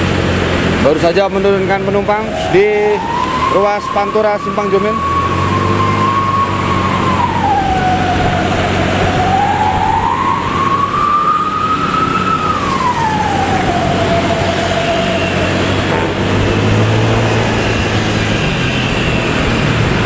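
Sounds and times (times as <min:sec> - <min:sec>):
howling exhaust tone: 0:00.0 - 0:20.0
low engine drone: 0:00.0 - 0:20.0.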